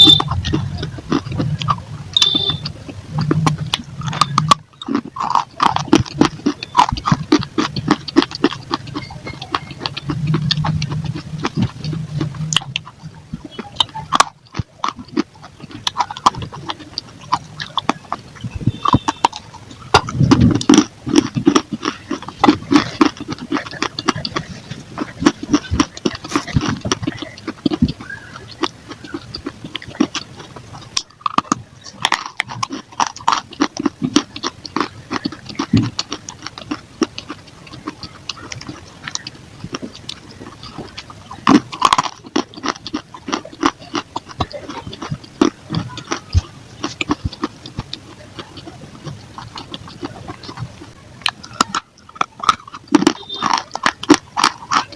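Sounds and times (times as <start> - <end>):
clay being chewed with crunches: 0.0 - 54.9.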